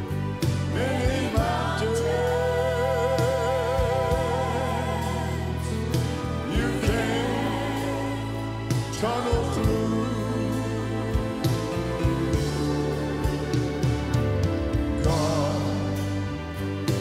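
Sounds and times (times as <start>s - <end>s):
band accompaniment with bass: 0.0s - 17.0s
person singing gospel: 0.4s - 17.0s.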